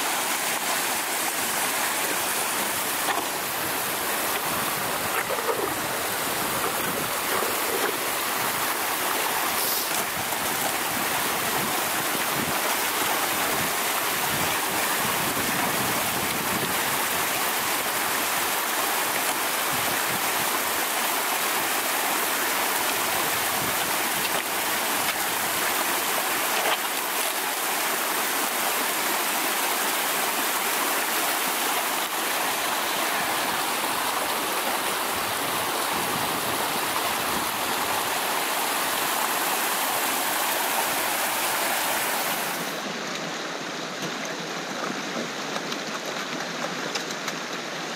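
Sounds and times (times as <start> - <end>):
brook rushing over rocks: 0.0 - 47.9.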